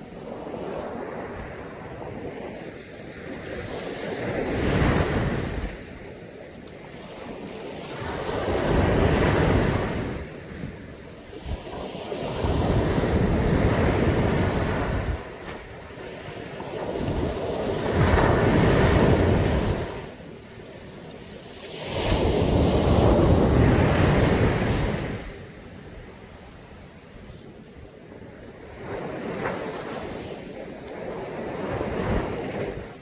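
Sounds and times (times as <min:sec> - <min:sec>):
sea waves breaking on beach: 0:00.0 - 0:33.0
wind on microphone: 0:00.0 - 0:33.0.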